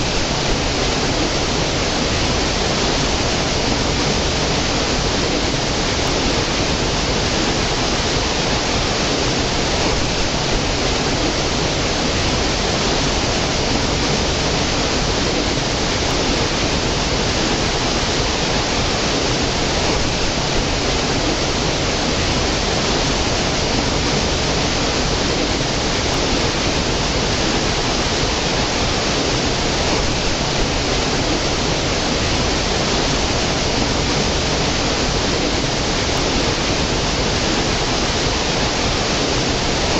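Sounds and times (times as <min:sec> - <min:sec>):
stream cascading over boulders: 0:00.0 - 0:39.9.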